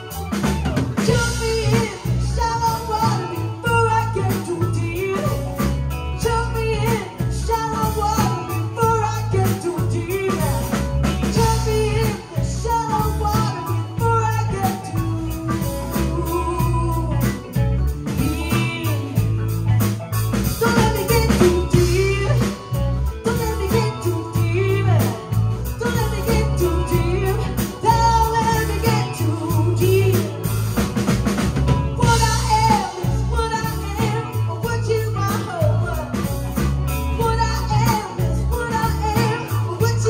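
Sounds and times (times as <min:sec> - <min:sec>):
drum kit: 0:00.0 - 0:40.0
electric bass: 0:00.0 - 0:40.0
electric guitar: 0:00.0 - 0:40.0
keyboards: 0:00.0 - 0:40.0
woman singing lead: 0:00.0 - 0:40.0.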